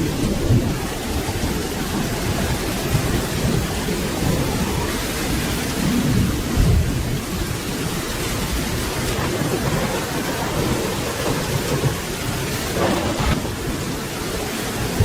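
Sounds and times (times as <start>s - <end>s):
rain hissing: 0.0s - 15.0s
rolling thunder: 0.0s - 15.0s.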